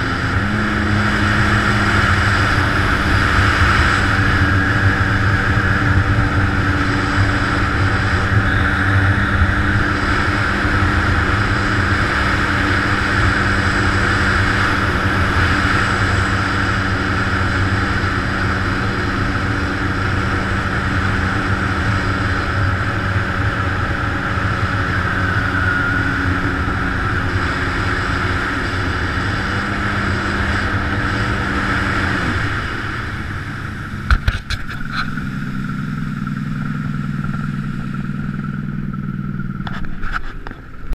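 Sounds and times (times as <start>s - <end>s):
jet ski engine running: 0.0s - 40.9s.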